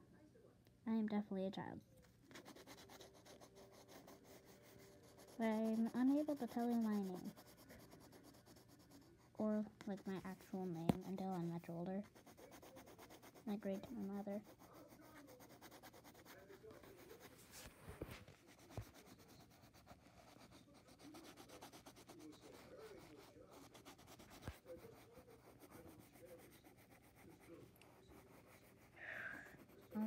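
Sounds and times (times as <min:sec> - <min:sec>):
pencil rubbing on paper: 0:02.3 - 0:30.0.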